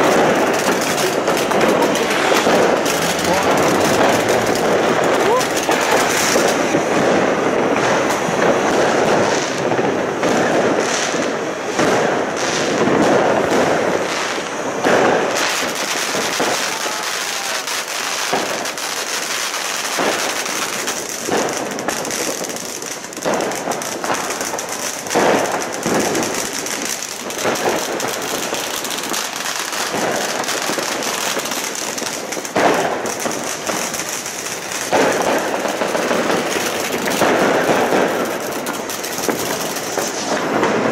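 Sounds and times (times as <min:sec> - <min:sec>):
fireworks cracking and banging: 0:00.0 - 0:40.9
fountain firework hissing: 0:00.0 - 0:40.9.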